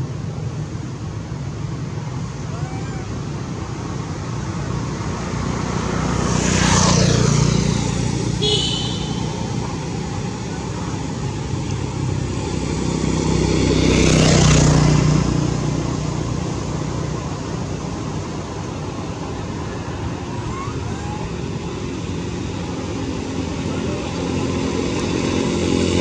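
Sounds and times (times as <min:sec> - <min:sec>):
road traffic noise: 0:00.0 - 0:26.0
vehicle engine passing: 0:03.3 - 0:26.0.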